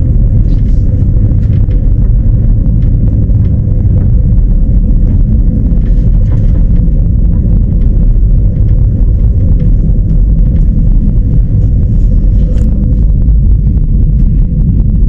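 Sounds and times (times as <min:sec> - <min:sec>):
faint steady hum: 0:00.0 - 0:15.0
train rumbling on rails: 0:00.0 - 0:15.0.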